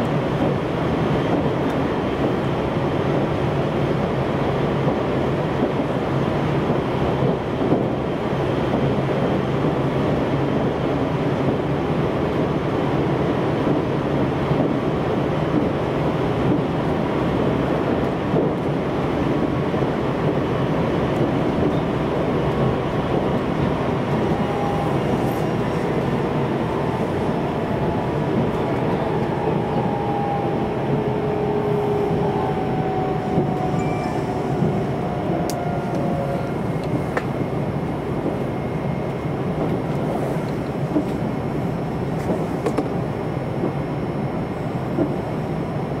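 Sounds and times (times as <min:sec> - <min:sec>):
train running gear rumble and hiss: 0:00.0 - 0:46.0.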